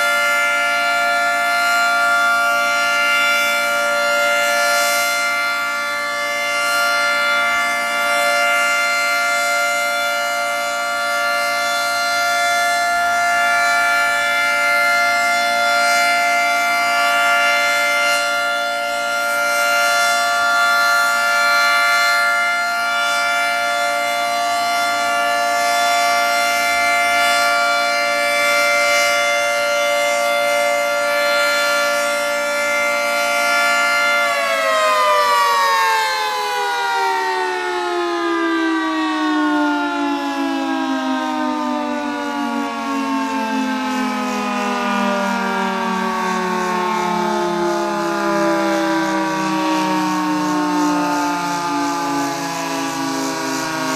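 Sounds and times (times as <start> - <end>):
rotating warning siren: 0.0 - 53.9.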